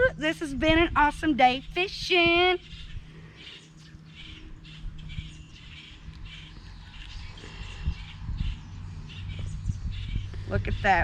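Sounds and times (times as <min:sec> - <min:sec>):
low steady hum: 0:00.0 - 0:11.0
birds calling short notes: 0:01.4 - 0:11.0.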